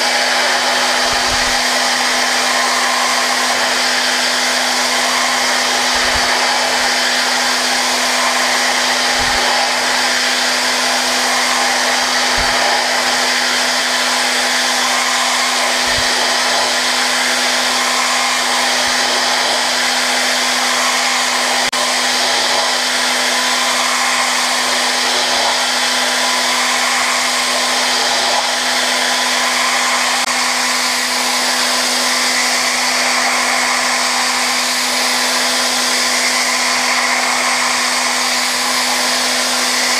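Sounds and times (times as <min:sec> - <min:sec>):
machine spindle whine and hiss: 0:00.0 - 0:39.9.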